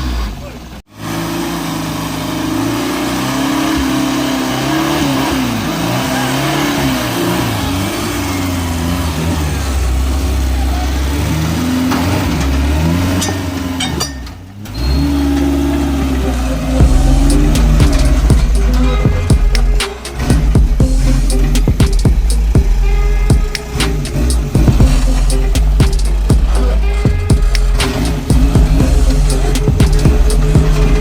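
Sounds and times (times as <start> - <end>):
engine revving: 0.0 - 31.0.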